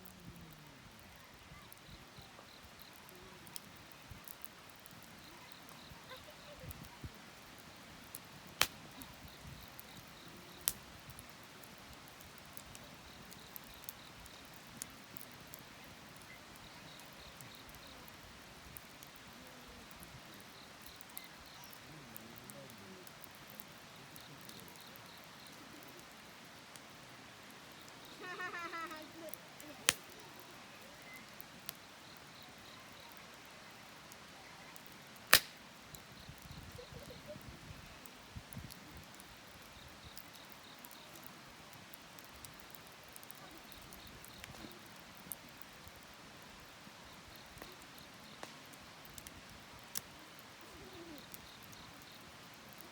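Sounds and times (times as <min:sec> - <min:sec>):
campfire hissing: 0:00.0 - 0:52.9
wood popping in fire: 0:00.0 - 0:52.9.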